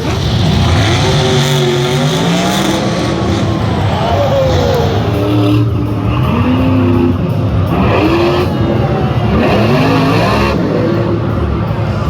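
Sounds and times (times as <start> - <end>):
monster truck engines revving: 0.0 - 12.0.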